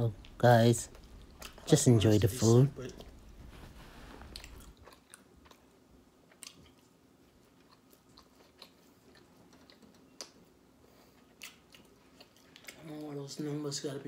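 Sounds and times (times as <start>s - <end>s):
faint chewing: 0.1s - 1.9s, 2.8s - 13.6s.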